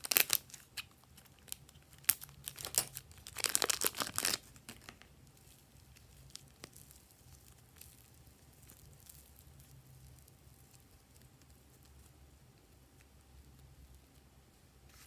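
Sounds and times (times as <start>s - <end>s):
clay squishing and crackling: 0.0s - 15.0s.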